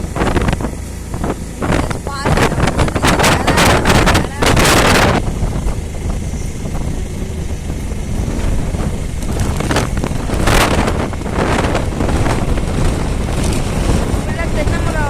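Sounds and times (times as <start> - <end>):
motorboat engine drone: 0.0 - 15.0
wind buffeting microphone: 0.0 - 15.0.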